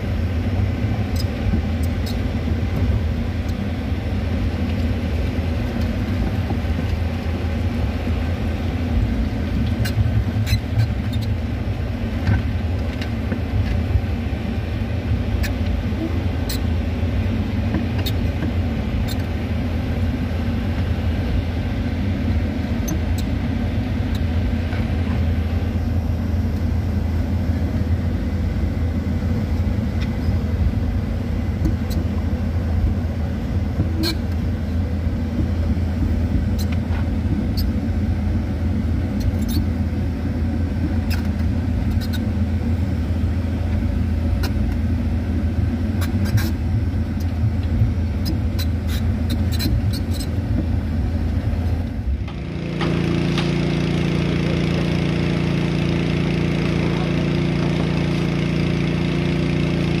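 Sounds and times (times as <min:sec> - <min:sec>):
excavator diesel engine rumbling: 0:00.0 - 1:00.0.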